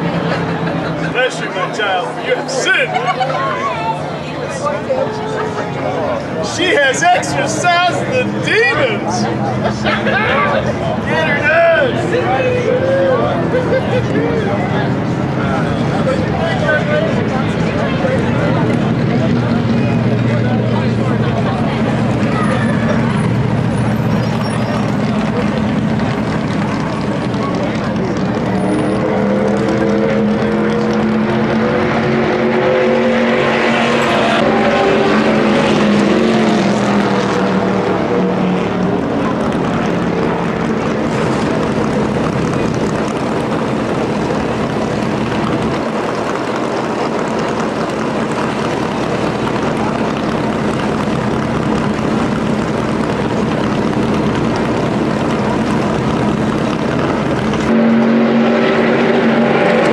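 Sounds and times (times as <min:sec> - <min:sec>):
engines idling loudly: 0:00.0 - 0:59.9.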